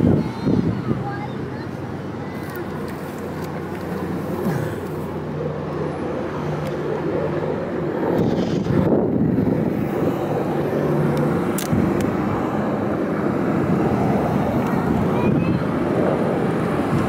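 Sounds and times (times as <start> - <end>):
locomotive engine drone: 0.0 - 17.0
rush of noise: 0.0 - 17.0.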